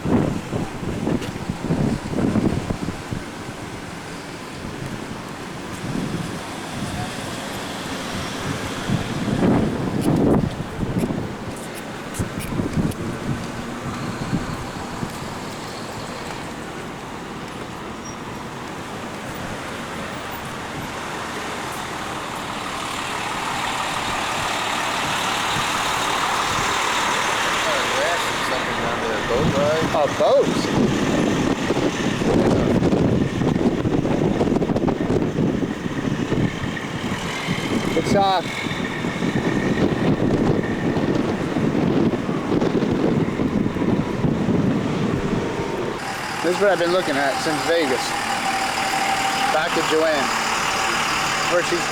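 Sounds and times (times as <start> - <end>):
road traffic rushing: 0.0 - 51.9
vehicle approaching: 0.0 - 51.9
wind buffeting microphone: 0.0 - 51.9.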